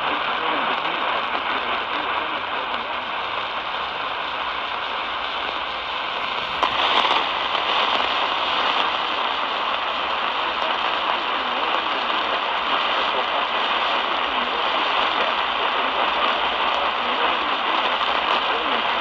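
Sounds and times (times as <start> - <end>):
radio hiss and static: 0.0 - 19.0.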